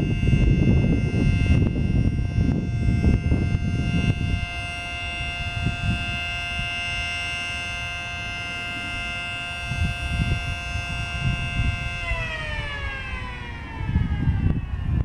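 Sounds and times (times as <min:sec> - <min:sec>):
distant siren steady tone: 0:00.0 - 0:15.0
low rumbling noise: 0:00.0 - 0:15.0.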